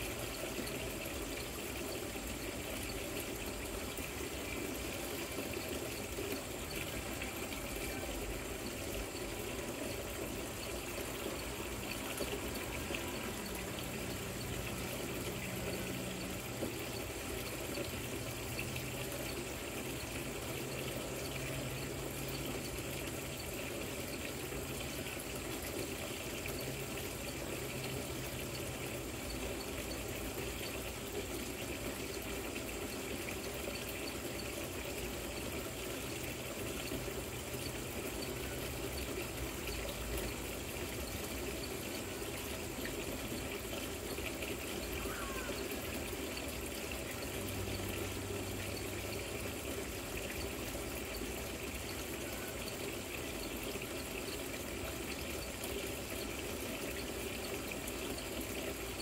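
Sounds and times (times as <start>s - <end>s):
water trickling down rock fountain: 0.0s - 59.0s.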